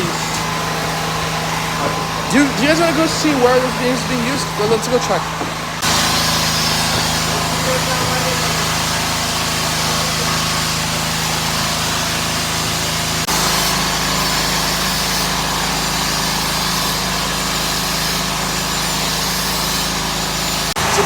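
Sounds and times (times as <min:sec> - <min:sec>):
portable generator running: 0:00.0 - 0:21.0.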